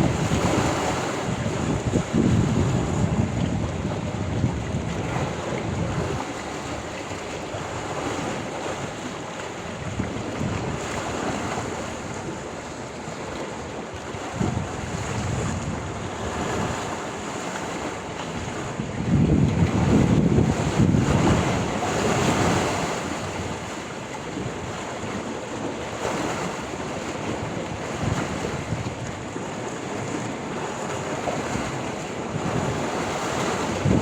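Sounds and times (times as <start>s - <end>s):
sea surf washing: 0.0s - 34.0s
wind buffeting microphone: 0.0s - 34.0s.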